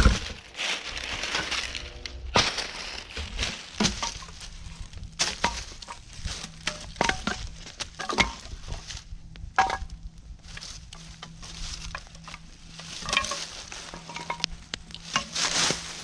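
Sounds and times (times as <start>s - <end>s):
dry wood cracking and snapping: 0.0s - 16.0s.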